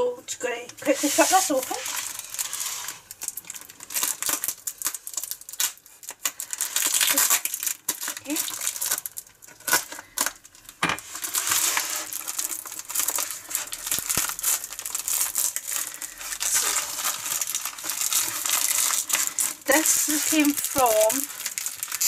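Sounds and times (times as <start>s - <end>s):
plastic bag crinkling and tearing: 0.8s - 22.0s.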